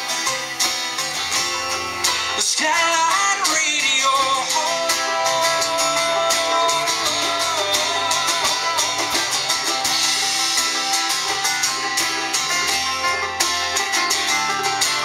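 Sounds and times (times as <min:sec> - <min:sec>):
drums: 0:00.0 - 0:15.0
lead guitar bending notes: 0:00.0 - 0:15.0
strummed guitars: 0:00.0 - 0:15.0.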